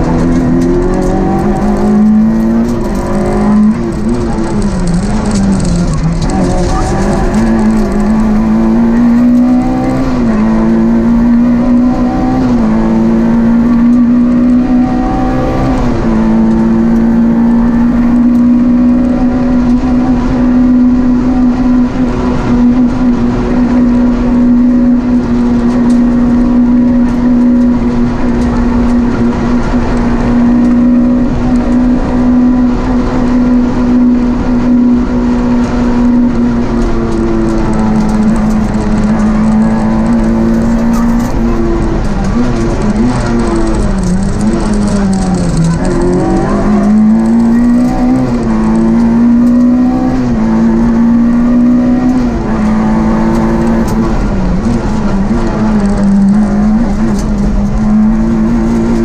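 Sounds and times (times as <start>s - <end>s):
rally car engine accelerating: 0.0s - 59.0s.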